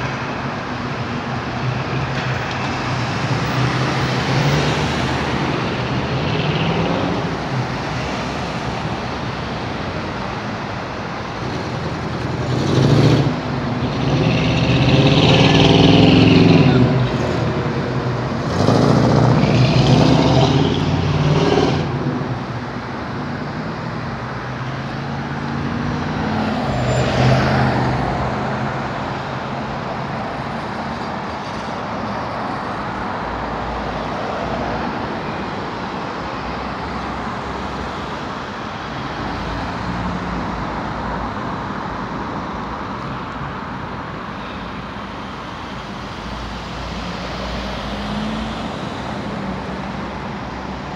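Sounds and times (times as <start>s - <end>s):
cars driving past: 0.0s - 50.9s
traffic hum: 0.0s - 50.9s.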